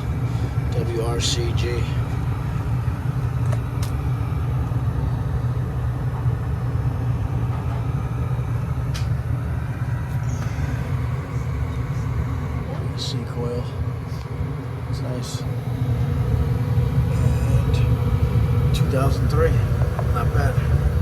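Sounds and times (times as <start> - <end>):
furnace blower droning: 0.0 - 21.0.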